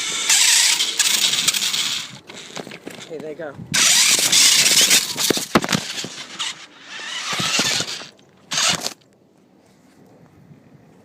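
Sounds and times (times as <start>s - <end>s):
rc truck scraping and rattling: 0.0s - 9.0s.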